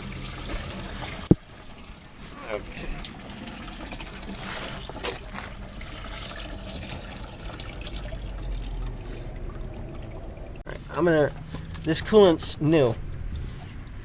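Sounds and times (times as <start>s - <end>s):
liquid trickling: 0.0s - 12.0s.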